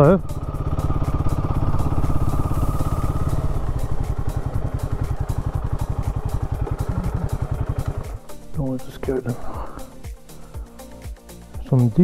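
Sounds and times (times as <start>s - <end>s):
motorcycle engine idling: 0.0s - 11.5s.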